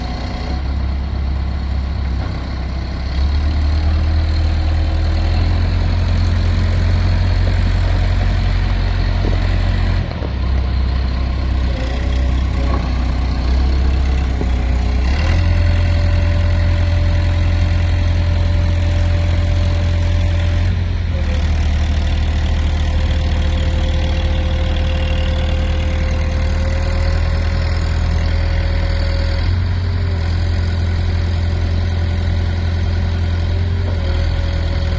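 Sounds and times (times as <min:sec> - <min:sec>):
diesel engine rumbling: 0:00.0 - 0:34.9.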